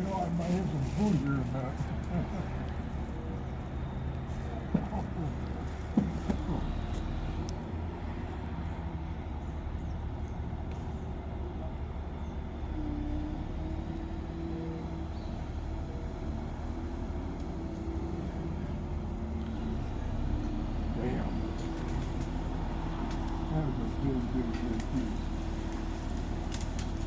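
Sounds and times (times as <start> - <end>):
crane diesel engine running: 0.0 - 27.0.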